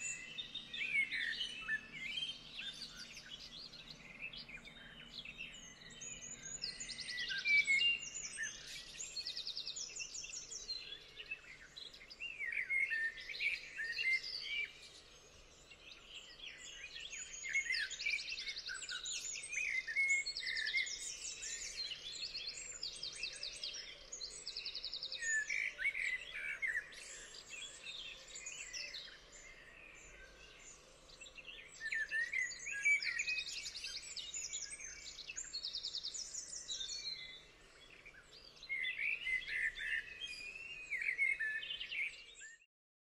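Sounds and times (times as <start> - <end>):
songbirds singing and trilling: 0.0 - 42.7.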